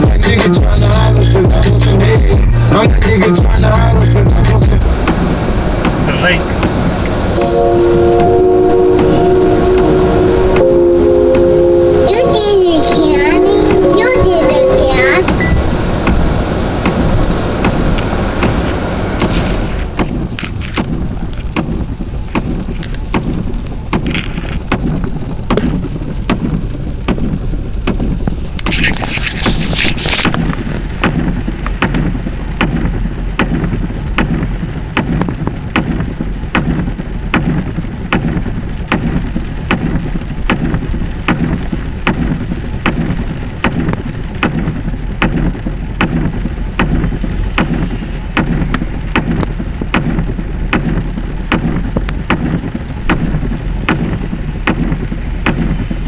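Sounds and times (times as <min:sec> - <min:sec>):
regular ticking: 0:00.0 - 0:28.7, 0:30.2 - 0:56.0
water churning around vehicle: 0:00.0 - 0:56.0.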